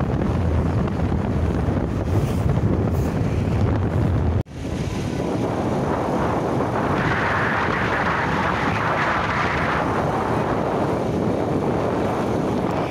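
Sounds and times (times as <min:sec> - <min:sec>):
road and engine noise: 0:00.0 - 0:12.9
wind over microphone: 0:00.0 - 0:12.9.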